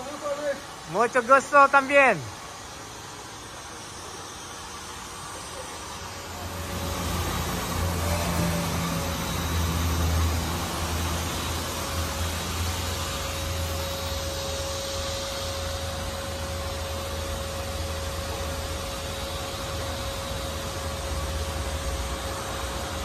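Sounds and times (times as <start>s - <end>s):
machine hiss: 0.0s - 23.0s
machine hum: 0.0s - 23.0s
thin steady whine: 0.0s - 23.0s.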